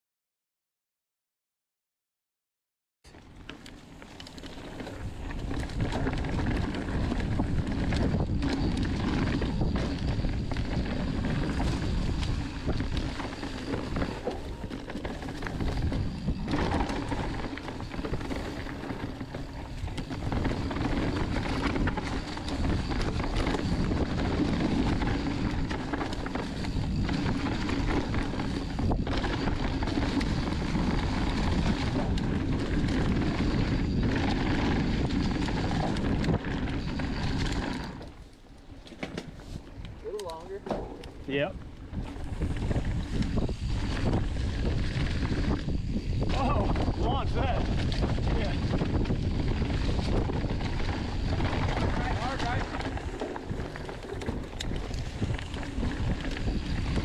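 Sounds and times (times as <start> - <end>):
bike tyres rumbling and rattling: 3.1 - 57.0
wind rushing over microphone: 4.7 - 38.0, 40.9 - 57.0.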